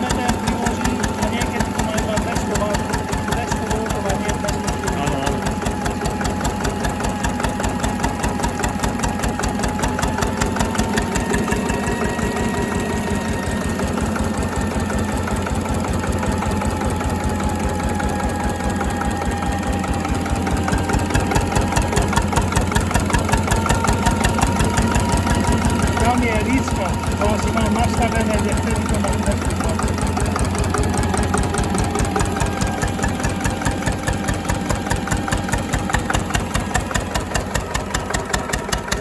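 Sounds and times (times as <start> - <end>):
stationary diesel engine running: 0.0 - 39.0.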